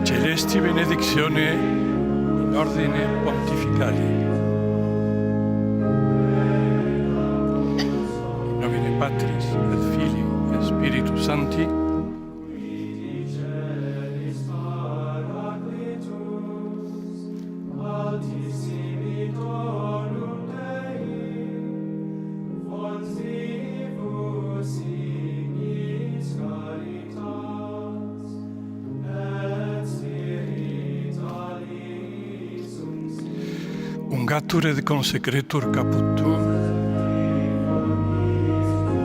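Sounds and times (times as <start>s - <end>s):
choir chanting a hymn: 0.0s - 39.0s.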